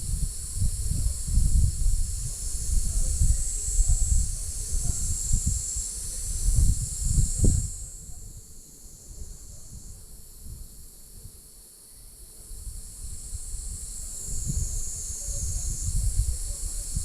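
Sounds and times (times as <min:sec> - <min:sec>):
wind buffeting microphone: 0:00.0 - 0:11.3, 0:12.4 - 0:17.0
insect chorus hissing: 0:00.0 - 0:17.0.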